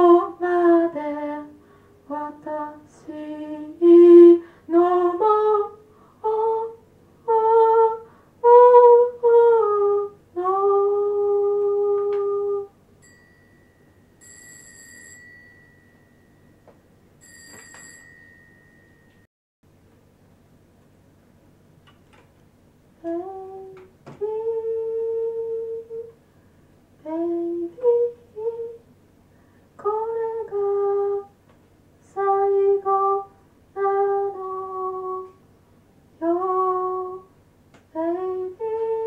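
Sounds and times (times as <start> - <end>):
faint high-pitched whine: 0.0 - 39.0.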